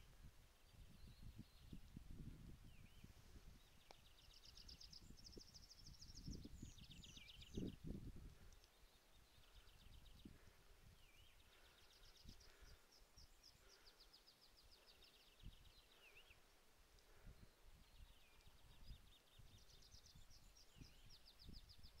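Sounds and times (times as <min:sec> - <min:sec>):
faint songbird singing: 0:00.0 - 0:22.0.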